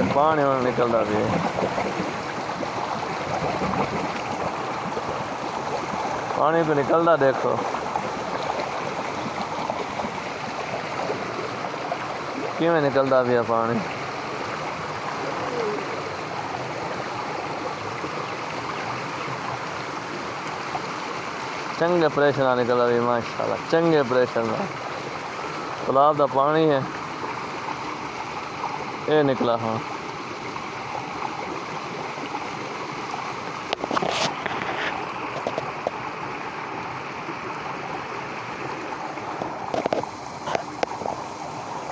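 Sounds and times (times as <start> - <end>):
water gushing and splashing: 0.0 - 41.9.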